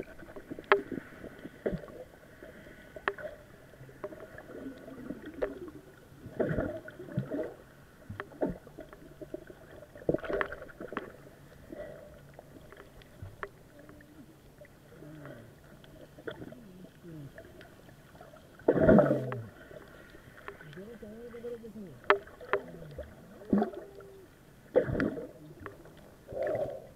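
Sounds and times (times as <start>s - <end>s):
muffled underwater sloshing: 0.0s - 26.9s.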